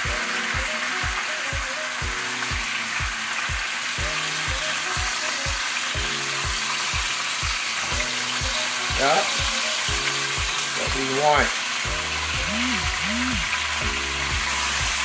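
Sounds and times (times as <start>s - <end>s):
background music with beat: 0.0s - 15.0s
meat sizzling in a pot: 0.0s - 15.0s.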